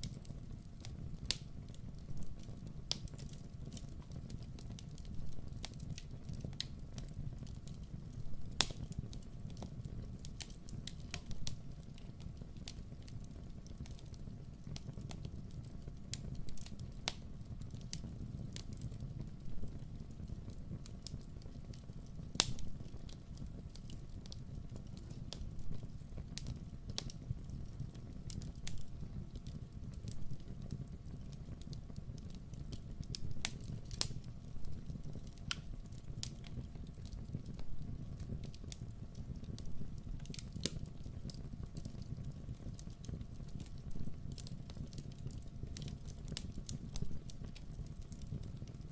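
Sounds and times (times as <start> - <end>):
fire crackles and pops: 0.0 - 48.9
low rumble of flames: 0.0 - 48.9.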